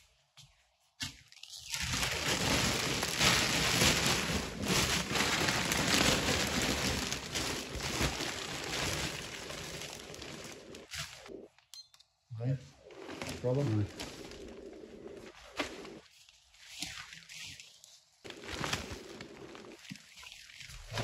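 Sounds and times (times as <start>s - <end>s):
plastic bags rustling and crinkling: 1.1s - 11.4s, 12.8s - 21.0s.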